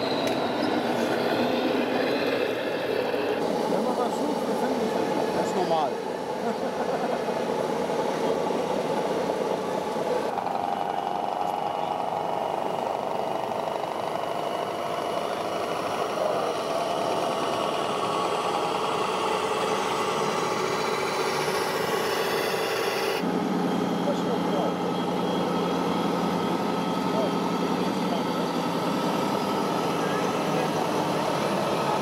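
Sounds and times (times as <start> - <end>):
model truck engine hum: 0.0 - 32.0.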